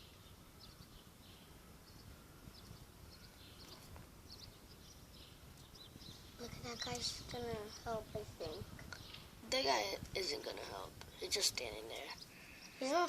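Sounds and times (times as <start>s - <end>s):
faint bird chirps: 0.0s - 13.0s
low outdoor background noise: 0.0s - 13.0s.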